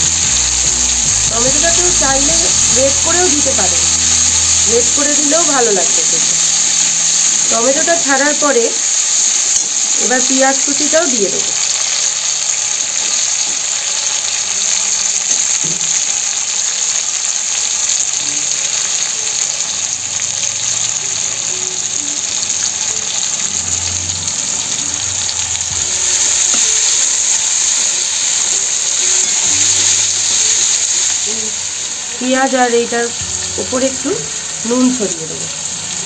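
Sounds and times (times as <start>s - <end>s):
vegetables frying in oil: 0.0s - 36.0s.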